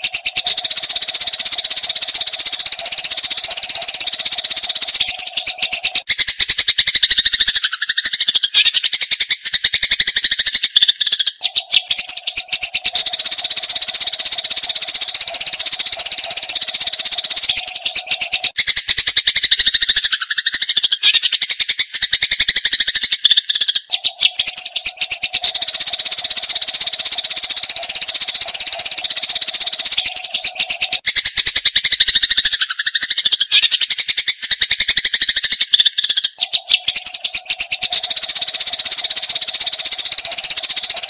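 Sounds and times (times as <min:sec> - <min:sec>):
sparrows chirping harshly: 0:00.0 - 0:41.0.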